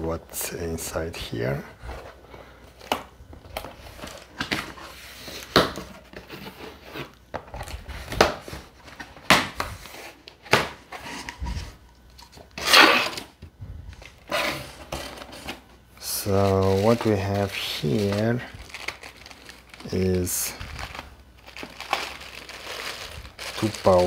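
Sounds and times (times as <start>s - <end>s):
cardboard rustling: 2.8s - 24.0s.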